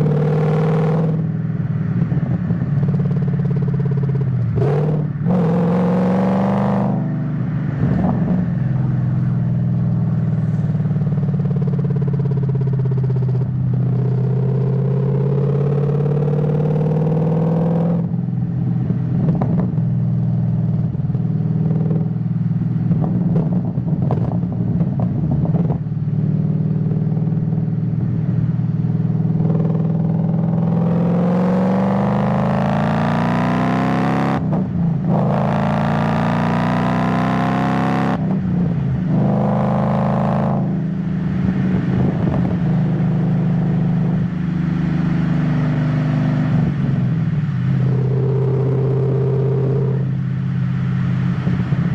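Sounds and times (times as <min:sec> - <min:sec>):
car engine revving: 0:00.0 - 0:27.6, 0:28.8 - 0:51.9.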